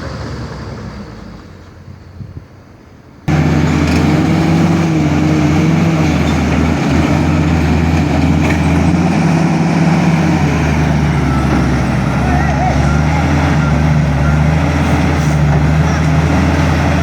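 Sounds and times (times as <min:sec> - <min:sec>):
heavy diesel engine running: 0:03.3 - 0:17.0.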